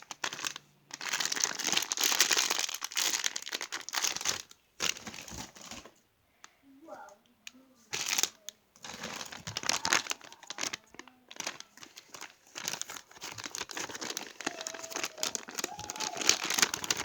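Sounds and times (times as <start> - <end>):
plastic packaging crinkling: 0.0 - 5.9, 7.9 - 17.0.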